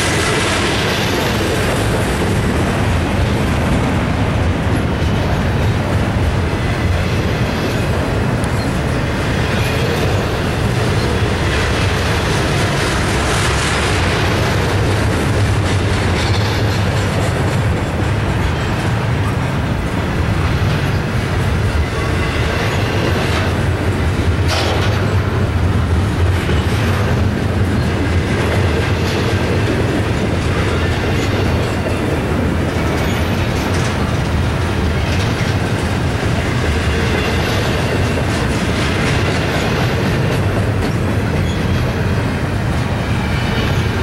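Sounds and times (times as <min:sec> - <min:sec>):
train rumbling past: 0:00.0 - 0:44.0
wheels clacking over rail: 0:00.0 - 0:44.0.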